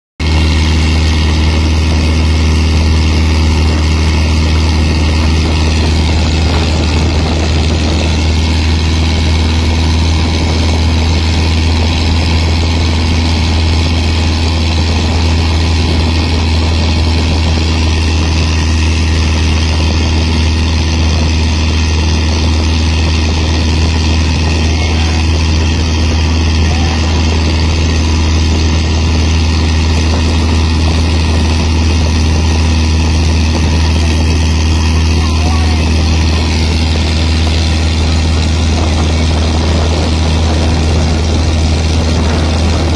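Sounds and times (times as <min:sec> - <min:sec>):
boat engine droning: 0:00.2 - 0:42.9
water rushing along hull: 0:00.2 - 0:42.9.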